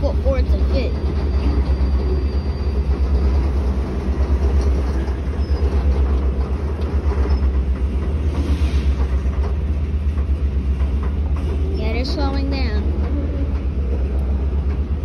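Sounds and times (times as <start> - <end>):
freight train rolling rumble: 0.0 - 15.0.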